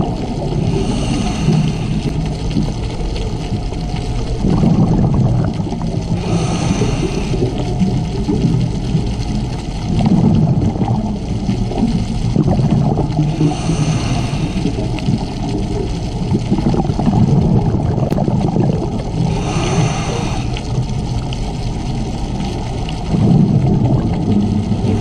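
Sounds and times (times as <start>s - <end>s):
bubbles gurgling underwater: 0.0s - 25.0s
water rumble on camera housing: 0.0s - 25.0s.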